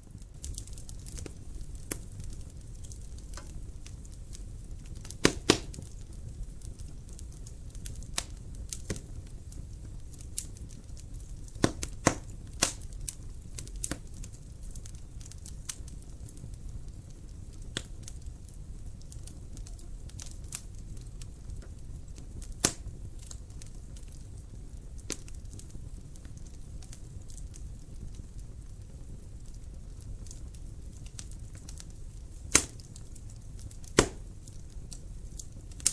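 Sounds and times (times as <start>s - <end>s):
low rumble of flames: 0.0s - 35.9s
wood fire crackling: 0.0s - 35.9s.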